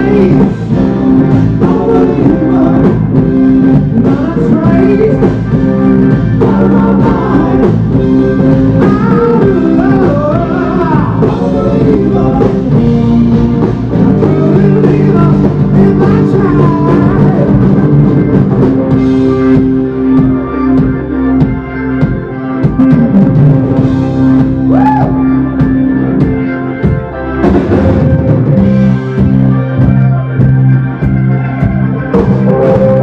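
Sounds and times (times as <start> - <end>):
drum kit: 0.0 - 33.0
electric guitar: 0.0 - 33.0
keyboard: 0.0 - 33.0.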